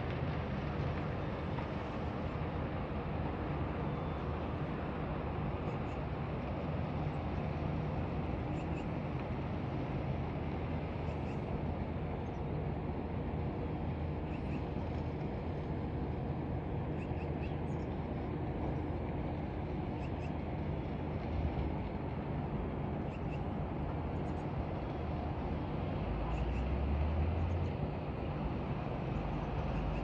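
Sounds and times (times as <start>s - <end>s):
faint engine hum: 0.0s - 30.0s
traffic rumble: 0.0s - 30.0s.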